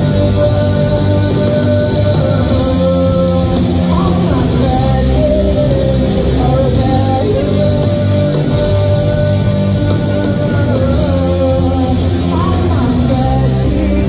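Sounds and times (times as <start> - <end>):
electric guitars sustained notes: 0.0 - 14.0
live rock band playing: 0.0 - 14.0.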